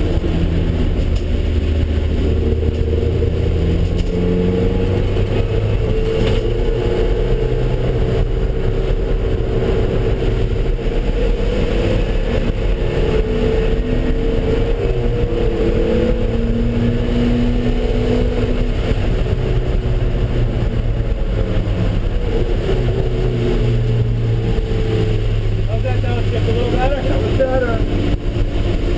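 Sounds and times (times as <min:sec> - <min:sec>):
car engine running at speed: 0:00.0 - 0:28.9
heavy road noise: 0:00.0 - 0:28.9.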